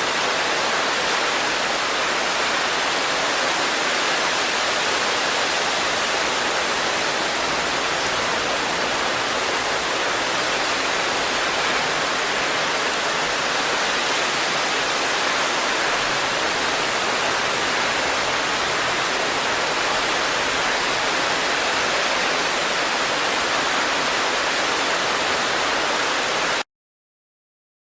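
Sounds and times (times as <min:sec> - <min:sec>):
heavy rain: 0:00.0 - 0:26.6.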